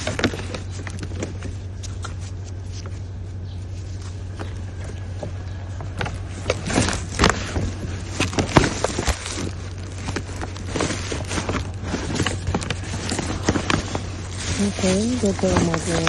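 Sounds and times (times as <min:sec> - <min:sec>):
rummaging rustling and knocking: 0:00.0 - 0:03.0, 0:03.9 - 0:16.0
steady low hum: 0:00.0 - 0:16.0.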